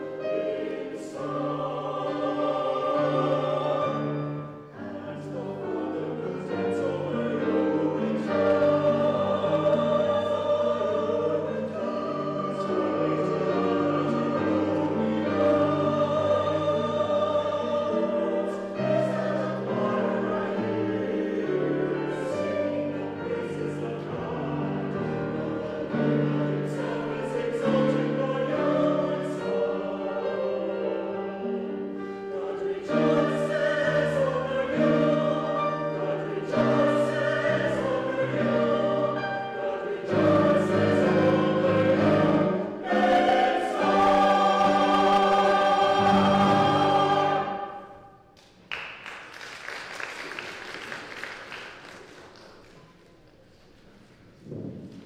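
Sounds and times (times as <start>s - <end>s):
piano accompaniment: 0.0s - 47.9s
church choir singing: 0.0s - 48.5s.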